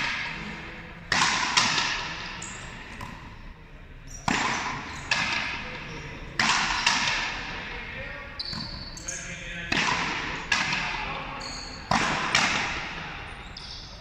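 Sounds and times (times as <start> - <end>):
ball hitting rackets and wall: 0.0 - 3.4, 4.1 - 7.8, 8.4 - 13.7.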